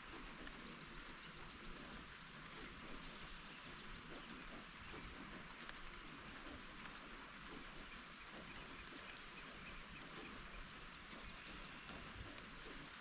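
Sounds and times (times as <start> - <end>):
steady rain falling: 0.0 - 13.0
sharp drip taps: 1.9 - 13.0.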